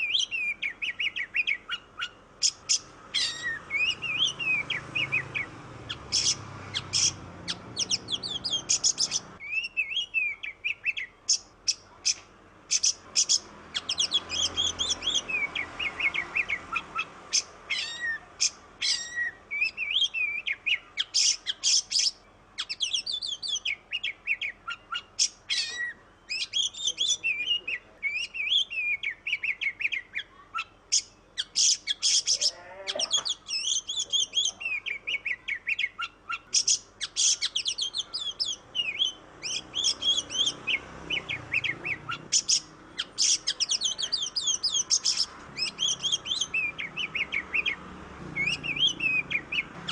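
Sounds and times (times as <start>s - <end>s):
songbird singing varied song: 0.0s - 49.9s.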